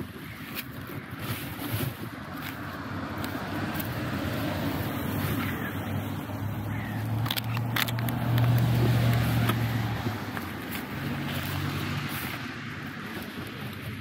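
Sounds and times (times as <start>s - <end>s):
clicks and rustles of leaves: 0.0s - 14.0s
passing car engine hum: 2.7s - 14.0s.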